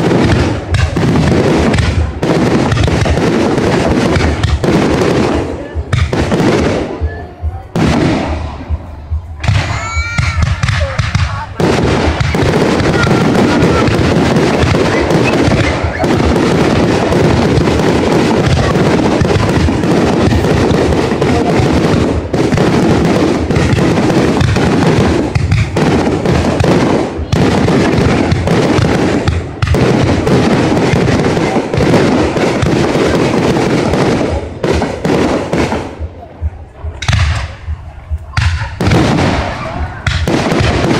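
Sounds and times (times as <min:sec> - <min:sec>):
fireworks bursts and crackling: 0:00.0 - 0:40.9.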